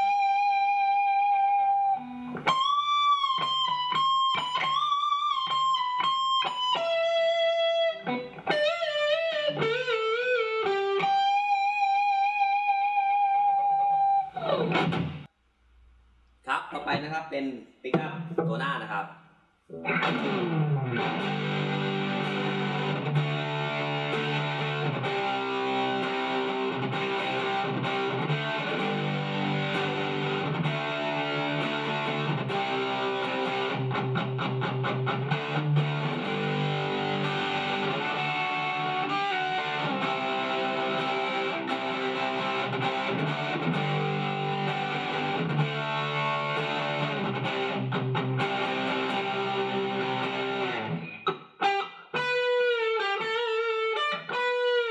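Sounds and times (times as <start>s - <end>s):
electric guitar playing: 0.0s - 15.3s, 19.7s - 54.9s.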